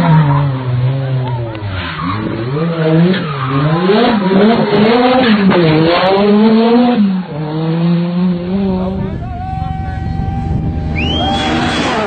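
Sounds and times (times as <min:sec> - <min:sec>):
rally car engine driven hard: 0:00.0 - 0:12.0.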